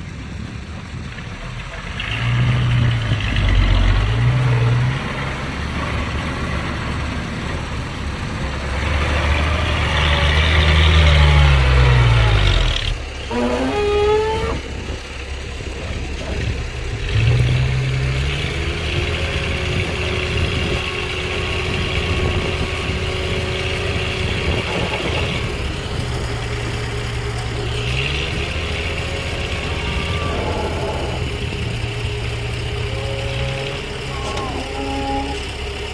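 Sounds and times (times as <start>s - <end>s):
construction machine engine revving: 0.0s - 35.9s.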